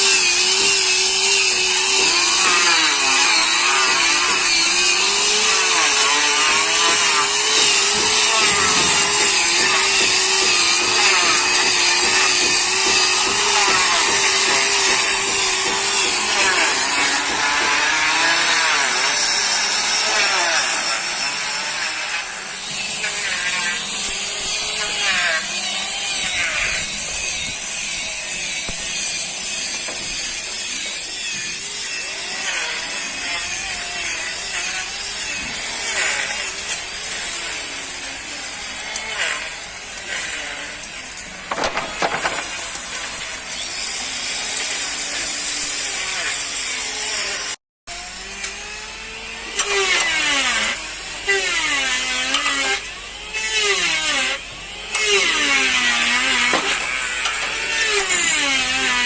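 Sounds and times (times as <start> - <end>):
power tool cutting wood: 0.0 - 59.0.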